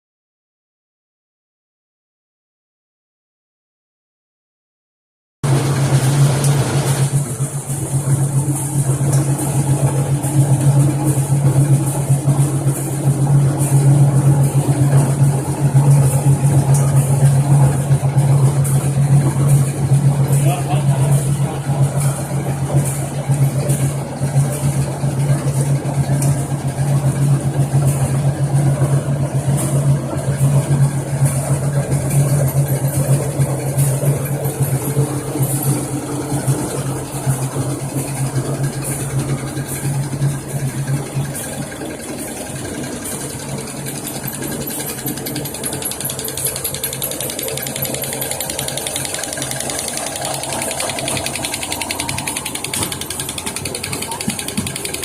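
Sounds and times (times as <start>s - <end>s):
machine mechanical noise: 5.4s - 55.0s
motor hum: 5.4s - 55.0s.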